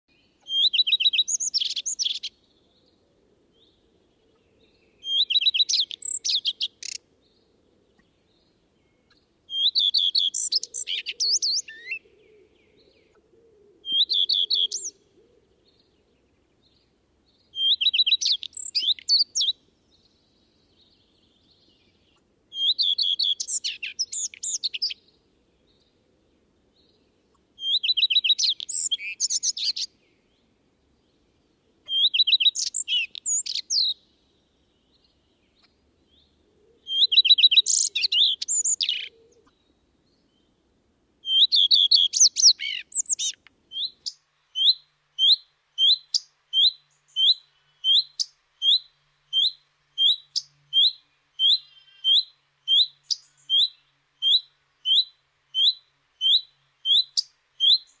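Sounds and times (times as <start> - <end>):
bird singing: 0.1 - 40.6, 41.2 - 58.0.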